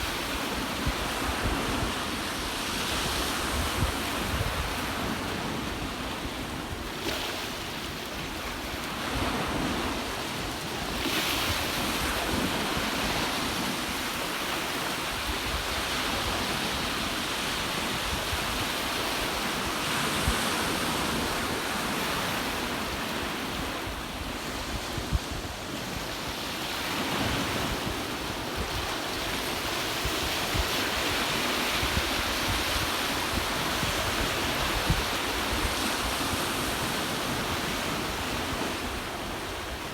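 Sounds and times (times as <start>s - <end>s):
ocean waves washing ashore: 0.0s - 39.9s
wind buffeting microphone: 0.0s - 39.9s.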